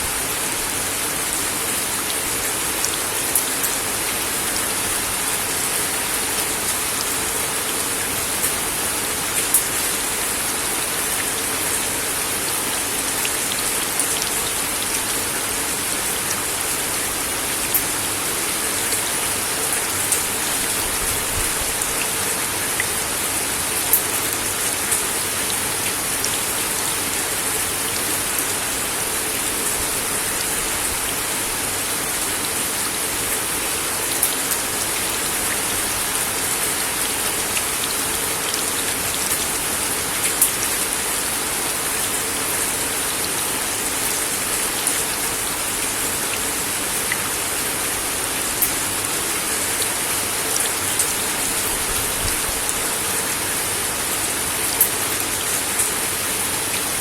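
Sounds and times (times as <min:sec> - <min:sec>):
rain on a wooden deck: 0:00.0 - 0:57.0.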